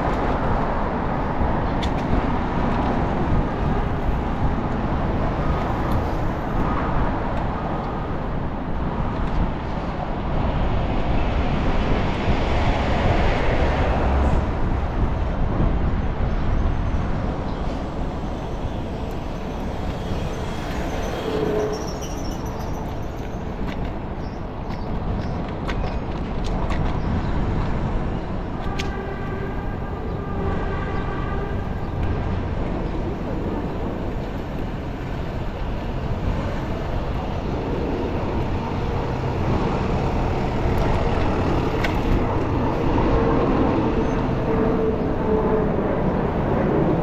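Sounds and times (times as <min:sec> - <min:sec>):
street traffic: 0:00.0 - 0:47.0
wind noise: 0:00.0 - 0:47.0.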